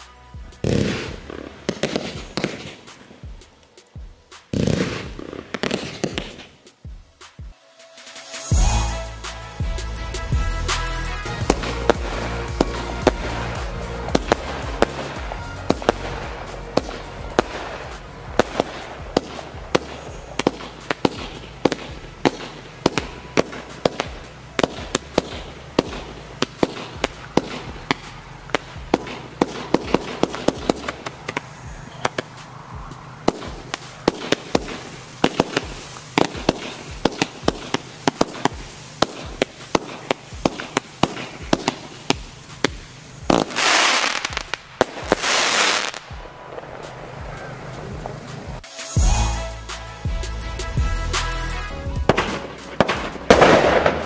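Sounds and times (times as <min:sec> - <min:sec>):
firework battery firing bangs: 0:00.0 - 0:06.8, 0:10.2 - 0:49.4, 0:50.8 - 0:54.0.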